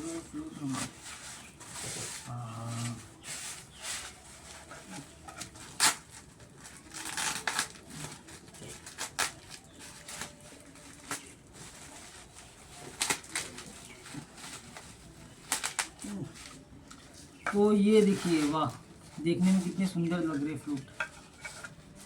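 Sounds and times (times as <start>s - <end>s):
packing rustling: 0.0s - 22.0s.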